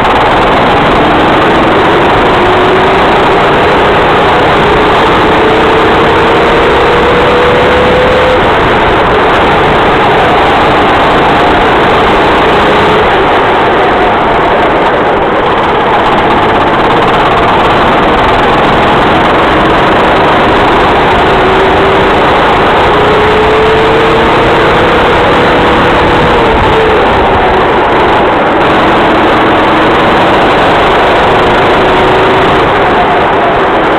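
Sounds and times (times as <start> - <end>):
kart engine running: 0.0 - 33.9
loud rushing noise: 0.0 - 33.9.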